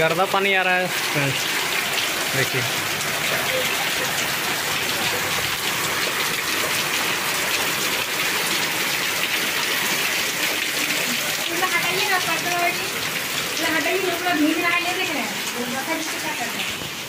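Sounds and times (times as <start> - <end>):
heavy rain on roofs: 0.0 - 17.0.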